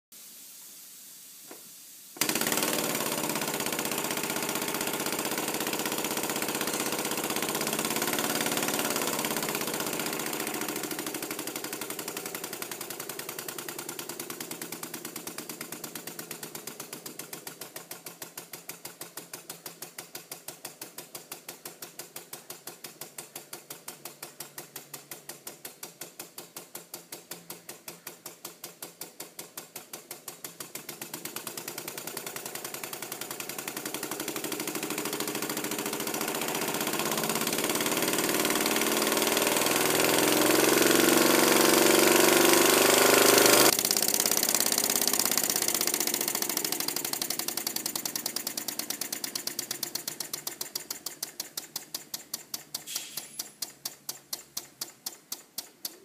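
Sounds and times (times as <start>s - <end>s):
engine knocking clatter: 2.2s - 56.0s.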